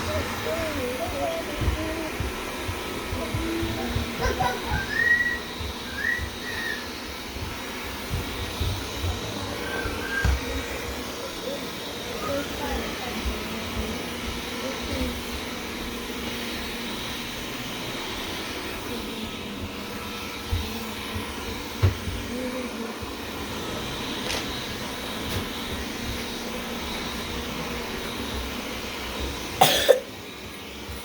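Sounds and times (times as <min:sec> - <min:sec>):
robot vacuum whirring: 0:00.0 - 0:31.0.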